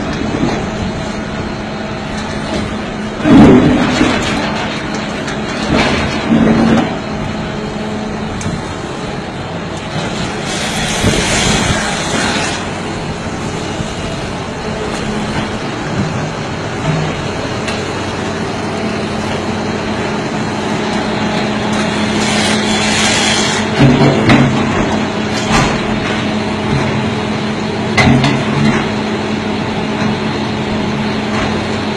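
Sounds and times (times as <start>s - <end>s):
diesel machinery humming: 0.0s - 31.9s.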